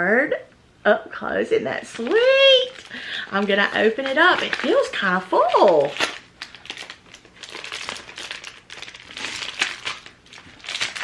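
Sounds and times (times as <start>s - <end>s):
paper crinkling and rustling: 1.8s - 11.0s.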